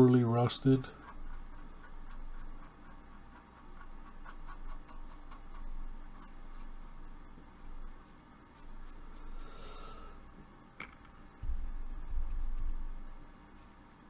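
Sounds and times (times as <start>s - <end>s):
paintbrush scratching on plastic: 0.0s - 10.3s, 11.4s - 14.0s.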